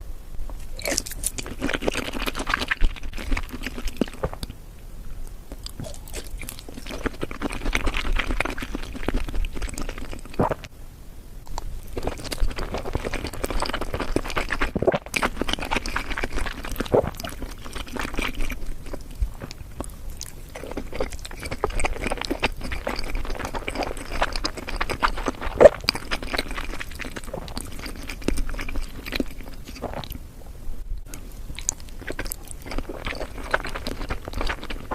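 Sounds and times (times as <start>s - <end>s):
chewing and biting food: 0.6s - 4.5s, 5.5s - 10.7s, 11.5s - 30.2s, 31.2s - 34.9s.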